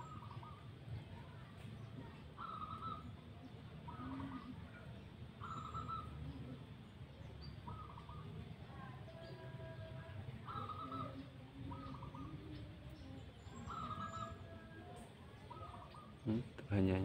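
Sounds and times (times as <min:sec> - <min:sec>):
doves cooing: 0:00.0 - 0:01.2, 0:02.1 - 0:08.7, 0:09.8 - 0:16.5.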